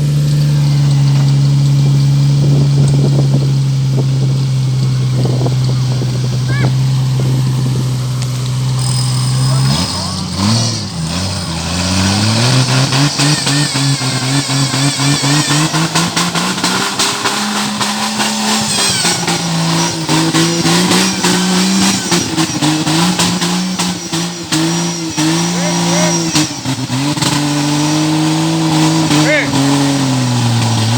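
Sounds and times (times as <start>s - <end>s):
engine revving under load: 0.0s - 30.9s.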